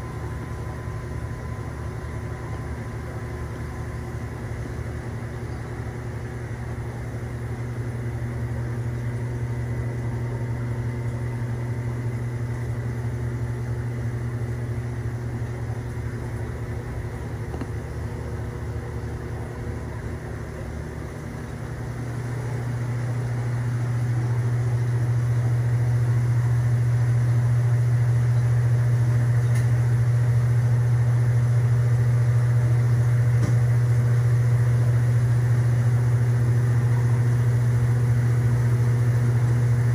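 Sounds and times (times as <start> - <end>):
aquarium equipment humming: 0.0 - 39.9.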